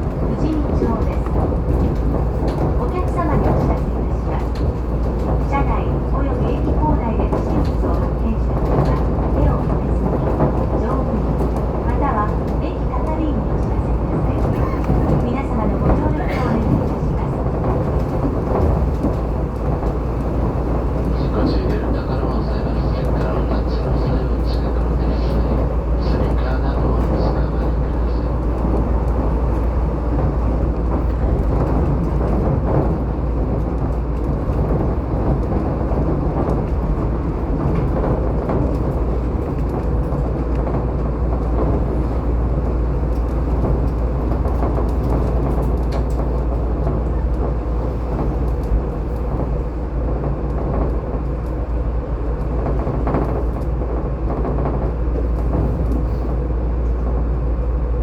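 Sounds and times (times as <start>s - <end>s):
monorail rumbling run noise: 0.0s - 58.0s.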